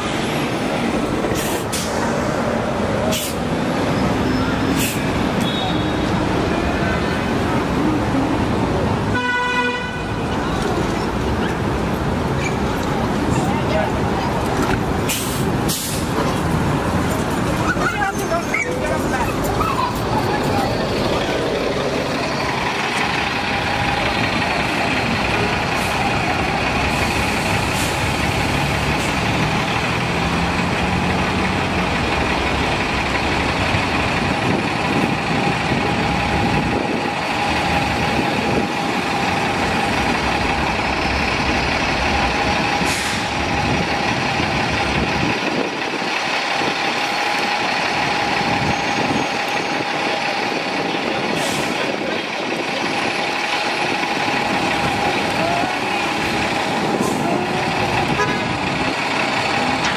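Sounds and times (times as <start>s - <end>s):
bus engine idling: 0.0s - 59.9s.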